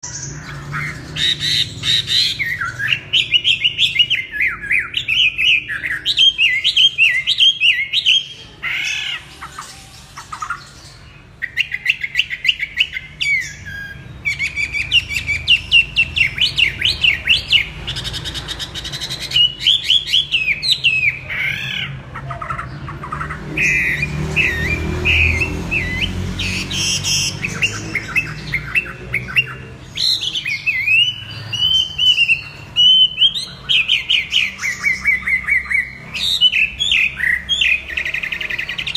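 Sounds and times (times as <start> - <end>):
songbird warbling: 0.0 - 38.9.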